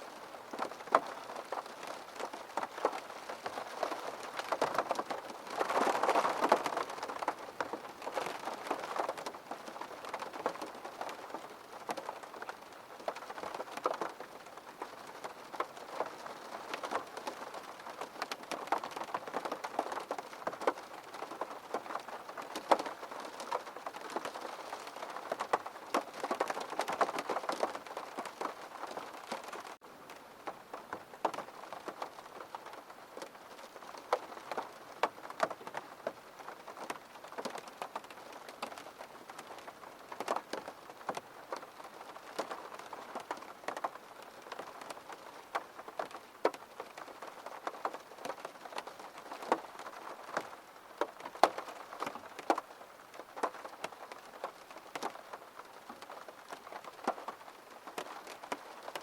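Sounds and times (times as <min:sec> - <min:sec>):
rain hitting a window: 0:00.0 - 0:59.0.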